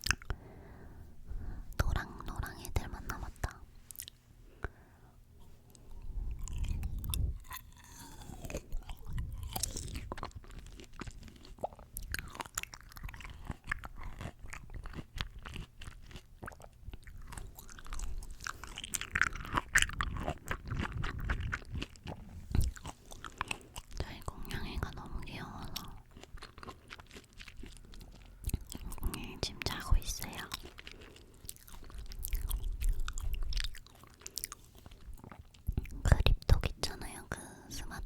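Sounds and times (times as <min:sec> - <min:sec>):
person chewing crisp fruit: 0:00.0 - 0:00.8, 0:01.8 - 0:04.7, 0:05.4 - 0:38.0.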